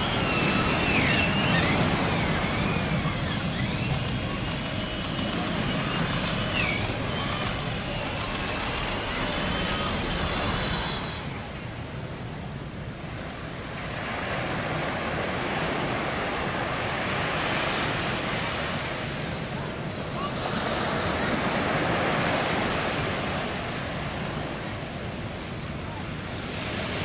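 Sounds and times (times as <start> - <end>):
sea surf washing on shore: 0.0 - 27.0
wind on microphone: 0.0 - 27.0.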